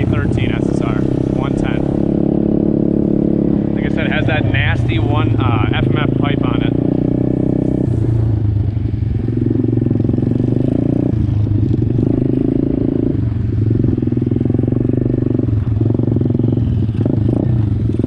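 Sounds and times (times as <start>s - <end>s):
motorbike engine at low speed: 0.0s - 18.0s.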